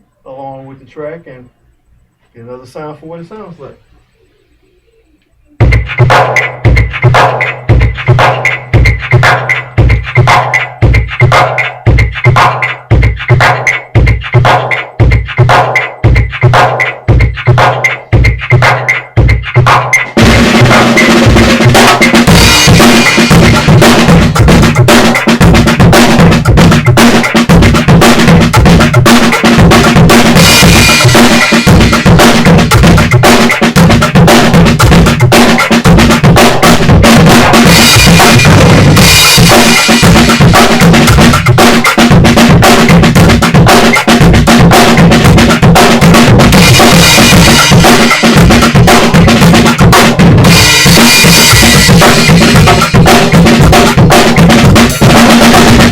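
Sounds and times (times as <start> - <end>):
drum kit groove: 5.4 - 55.9
backing track music: 5.6 - 55.9.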